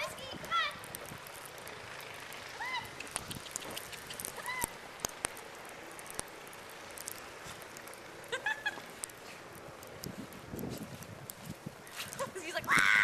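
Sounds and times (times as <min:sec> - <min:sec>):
faint ticks: 0:00.8 - 0:12.3.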